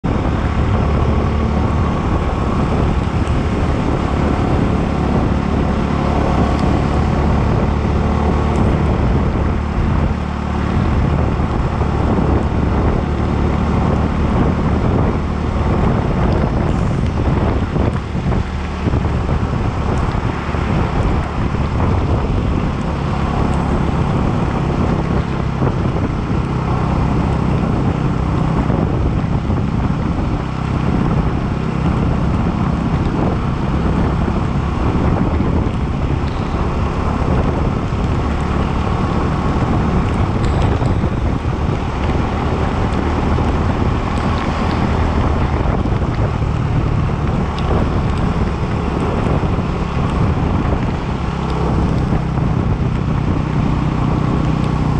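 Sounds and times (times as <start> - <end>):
motorcycle engine cruising: 0.0 - 54.9
wind noise on microphone: 0.0 - 54.9.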